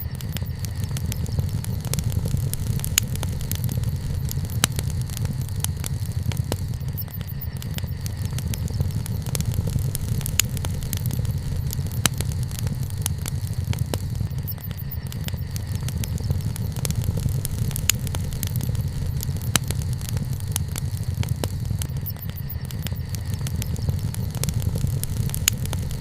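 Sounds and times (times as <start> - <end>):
fire low rumble: 0.0 - 26.0
sharp pops of fire: 0.0 - 26.0
wood fire crackling: 0.0 - 26.0.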